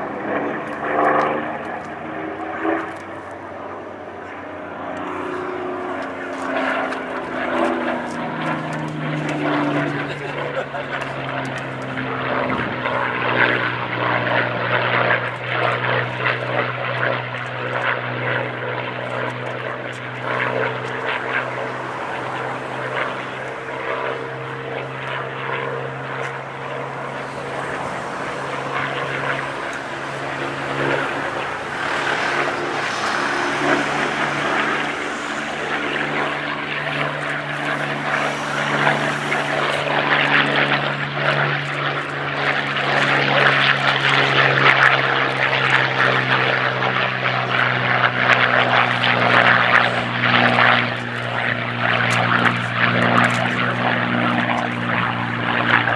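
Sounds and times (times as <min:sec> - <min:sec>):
propeller plane engine droning: 0:00.0 - 0:55.9.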